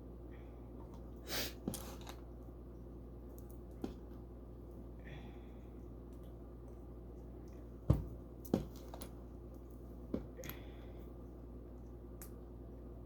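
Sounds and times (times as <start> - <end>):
low pump hum: 0.0 - 13.0.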